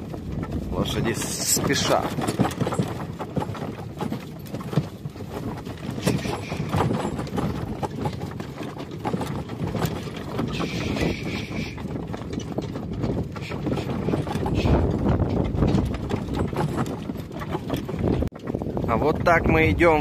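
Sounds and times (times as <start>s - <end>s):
horses hooves clip-clopping: 0.0s - 20.0s.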